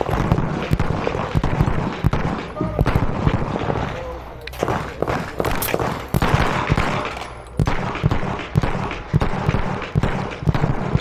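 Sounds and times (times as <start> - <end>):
pistol gunshots: 0.0 - 11.0.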